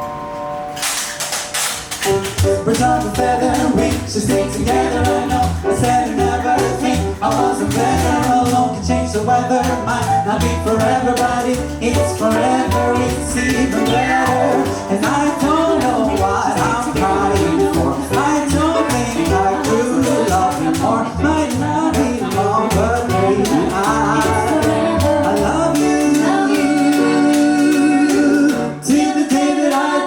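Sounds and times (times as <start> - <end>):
live band playing pop ballad: 2.0 - 30.0
person singing: 2.4 - 30.0.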